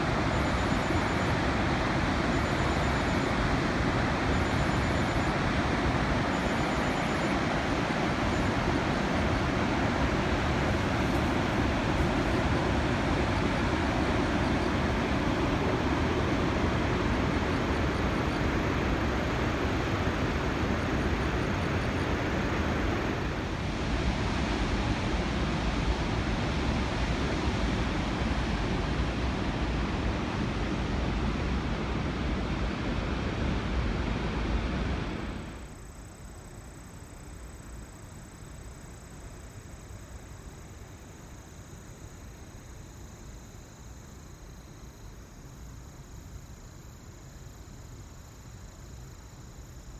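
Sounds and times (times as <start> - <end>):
water rushing at a dam: 0.0 - 49.9.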